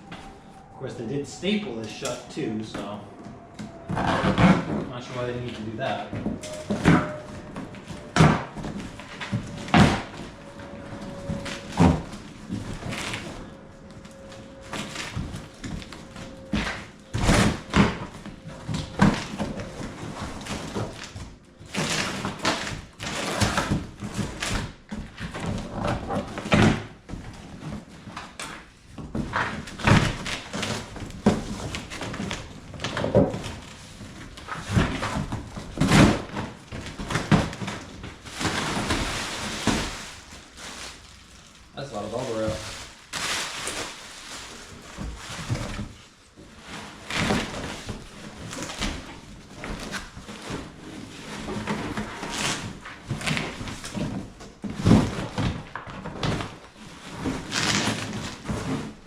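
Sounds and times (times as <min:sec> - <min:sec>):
cardboard rustling: 0:00.0 - 0:59.0.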